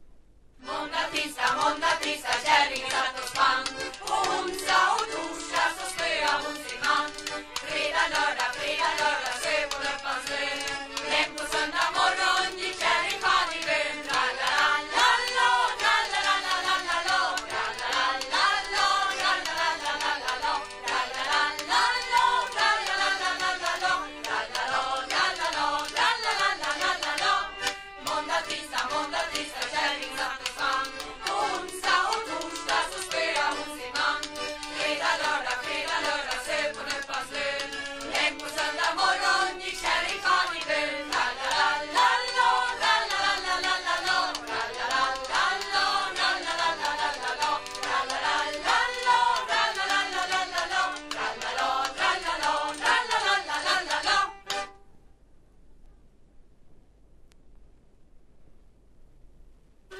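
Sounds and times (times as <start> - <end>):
acoustic instruments: 0.5 - 55.2
group of voices singing: 0.6 - 54.7.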